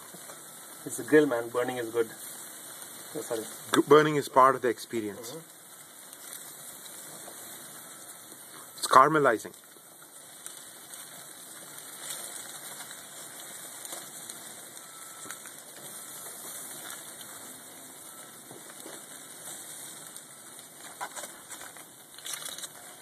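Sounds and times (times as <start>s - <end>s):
food sizzling on a grill: 0.0s - 23.0s.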